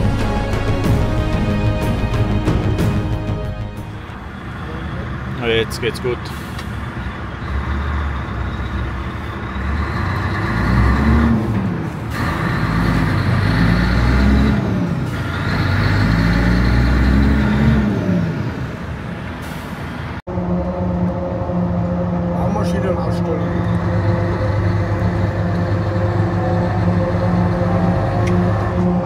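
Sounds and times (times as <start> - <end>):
truck engine shifting gears: 0.0 - 29.0.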